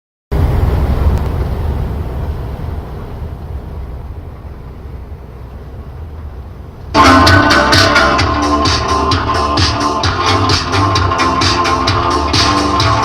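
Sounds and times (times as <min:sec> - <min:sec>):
truck road and engine rumble: 0:00.3 - 0:13.0.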